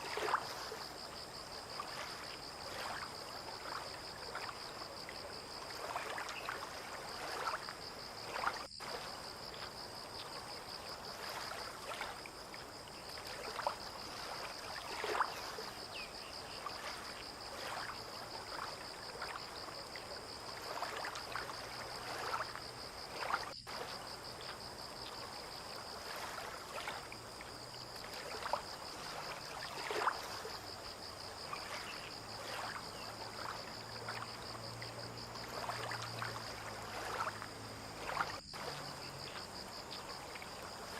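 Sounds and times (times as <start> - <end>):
water lapping against boats: 0.0 - 40.9.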